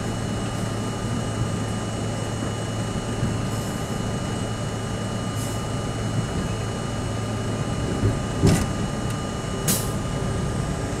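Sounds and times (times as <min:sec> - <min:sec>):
subway train hum: 0:00.0 - 0:11.0.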